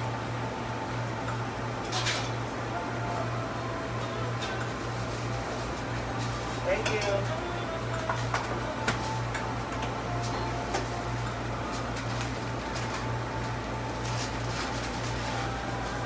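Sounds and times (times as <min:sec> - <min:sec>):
kitchen equipment humming: 0:00.0 - 0:16.0.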